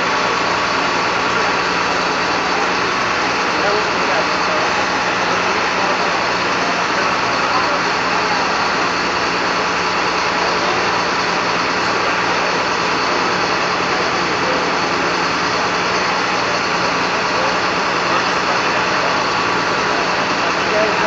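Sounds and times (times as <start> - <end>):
lumber mill engine drone: 0.0 - 21.0.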